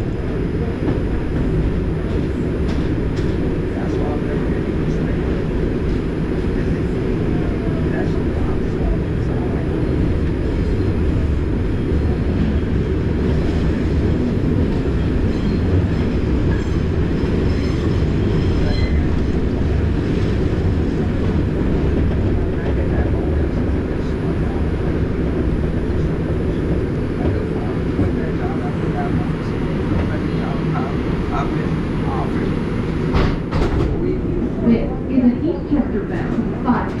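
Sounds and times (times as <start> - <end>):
subway train wheels rumbling: 0.0 - 37.0.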